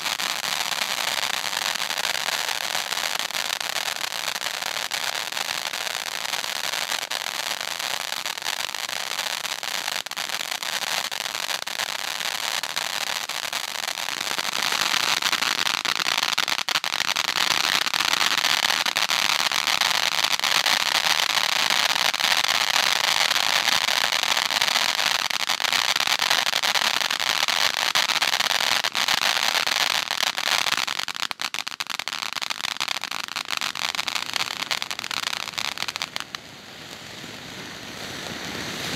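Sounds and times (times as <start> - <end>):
fireworks fountain hissing and crackling: 0.0 - 38.9.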